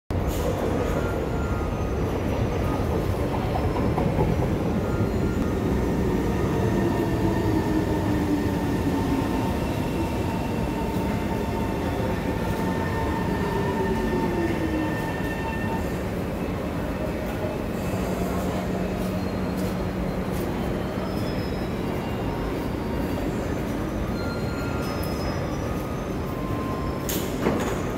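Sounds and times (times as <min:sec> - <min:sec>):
metro train braking: 0:00.2 - 0:27.9.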